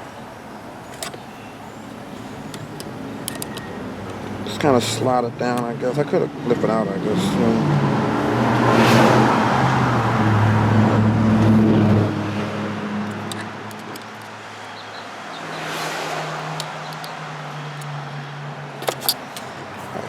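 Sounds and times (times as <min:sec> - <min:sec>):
road noise: 0:00.0 - 0:20.0
vehicle engine humming: 0:00.0 - 0:20.0.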